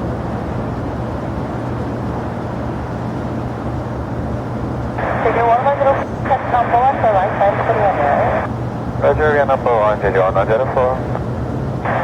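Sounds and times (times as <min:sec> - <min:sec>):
jet engines rushing: 0:00.0 - 0:12.0
low steady hum: 0:00.0 - 0:12.0.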